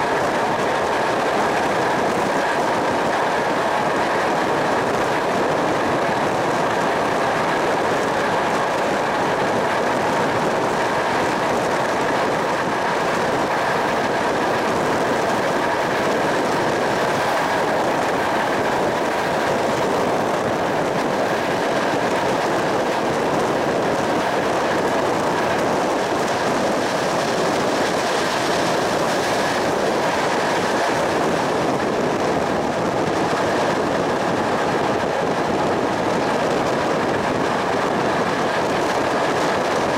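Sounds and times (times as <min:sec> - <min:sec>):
air rushing past carriage: 0:00.0 - 0:39.9
train wheels rushing on rails: 0:00.0 - 0:39.9.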